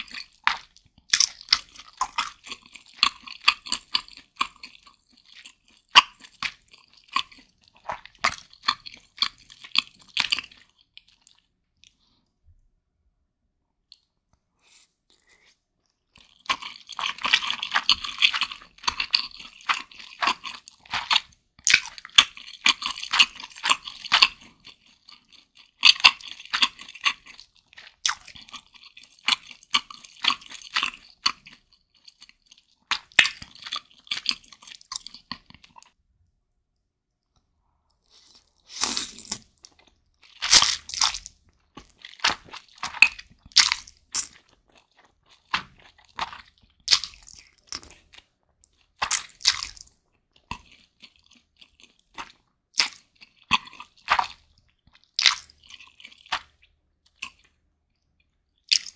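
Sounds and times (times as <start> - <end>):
chewing noodles: 0.0 - 12.2, 15.1 - 36.0, 37.3 - 58.9.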